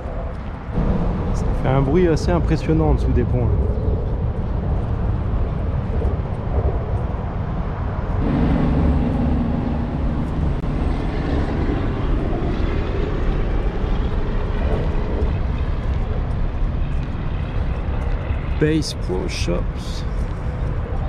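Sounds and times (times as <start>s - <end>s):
heavy vehicle drone: 0.0s - 21.0s
traffic rumble overhead: 0.0s - 21.0s.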